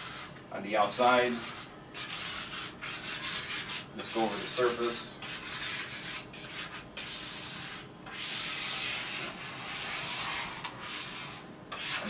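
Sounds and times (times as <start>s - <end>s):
scraper rubbing on vinyl: 0.0s - 0.3s, 1.2s - 12.0s.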